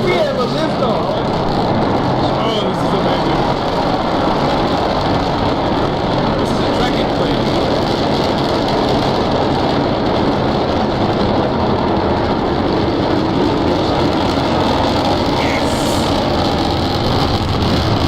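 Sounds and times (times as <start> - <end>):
distant rocket engine rumble: 0.0 - 18.0.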